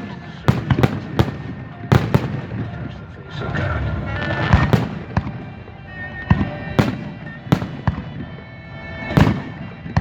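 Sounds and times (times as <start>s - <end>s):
fireworks banging: 0.0s - 10.0s
music playing: 0.0s - 10.0s.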